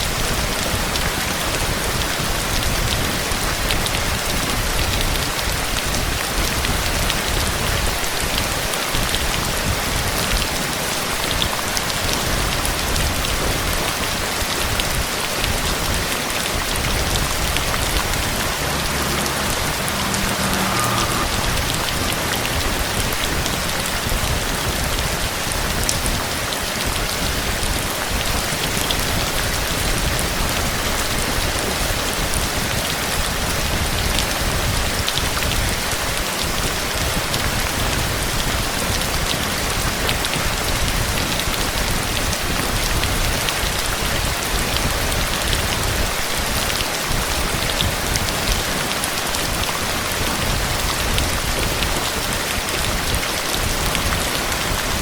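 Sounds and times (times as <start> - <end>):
heavy rain falling: 0.0 - 55.0
raindrops ticking on a surface: 0.0 - 55.0.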